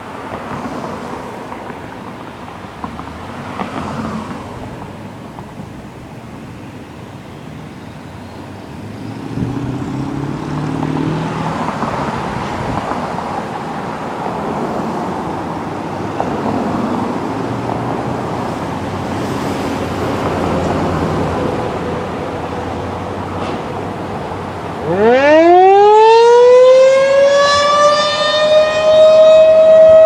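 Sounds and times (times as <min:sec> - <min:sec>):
road traffic noise: 0:00.0 - 0:30.0
vehicle engines passing: 0:00.0 - 0:30.0.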